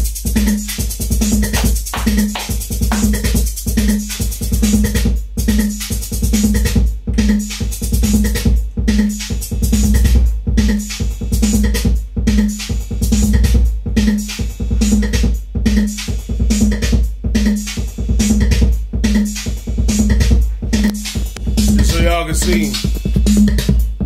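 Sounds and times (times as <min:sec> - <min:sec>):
deep bass and kick drum: 0:00.0 - 0:24.0
dense hi-hats: 0:00.0 - 0:24.0.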